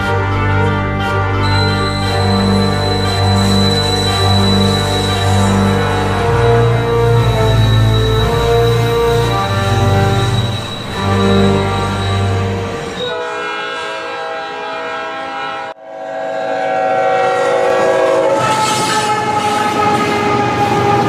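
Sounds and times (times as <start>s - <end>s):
locomotive air horns: 0.0s - 21.0s.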